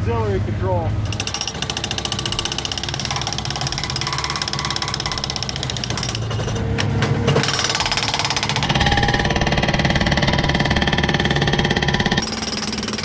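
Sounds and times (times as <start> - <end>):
loader engine running: 0.0 - 13.0
hydraulic breaker hammering concrete: 1.0 - 13.0.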